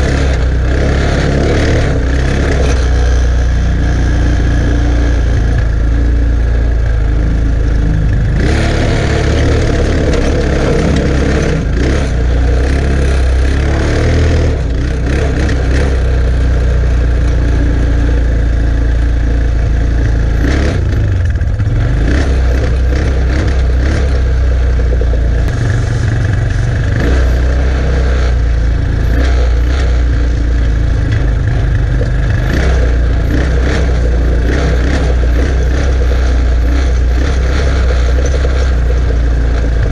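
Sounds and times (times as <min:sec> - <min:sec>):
atv engine under load: 0:00.0 - 0:39.9.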